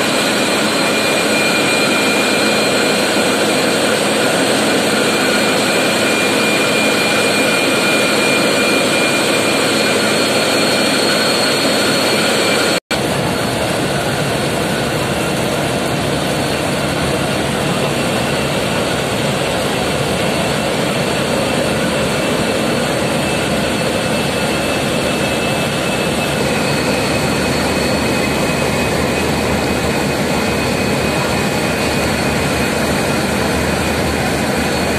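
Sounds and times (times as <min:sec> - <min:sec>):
boat engines running: 0:00.0 - 0:34.9.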